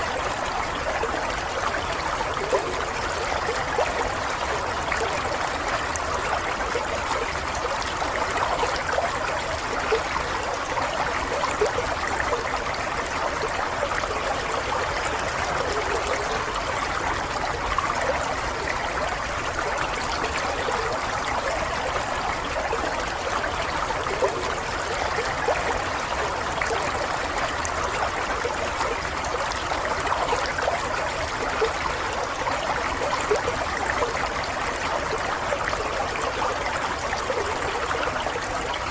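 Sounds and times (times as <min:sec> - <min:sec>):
water running and babbling: 0:00.0 - 0:38.9.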